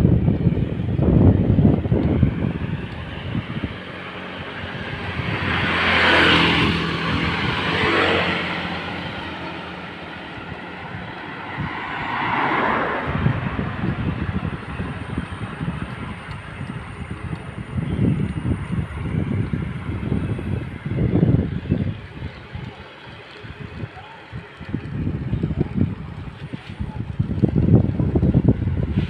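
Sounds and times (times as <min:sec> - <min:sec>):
vehicles passing: 0:00.0 - 0:29.0
wind buffeting microphone: 0:00.0 - 0:29.0.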